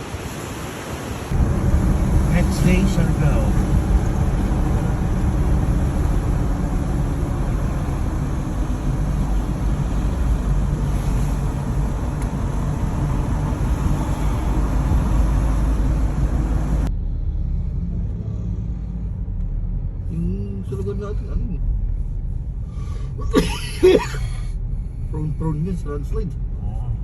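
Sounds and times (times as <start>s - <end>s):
road vehicle rumble: 0.0s - 27.0s.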